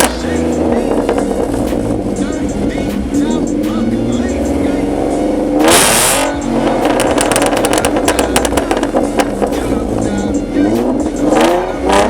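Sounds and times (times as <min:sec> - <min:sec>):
car engine burbling: 0:00.0 - 0:12.0.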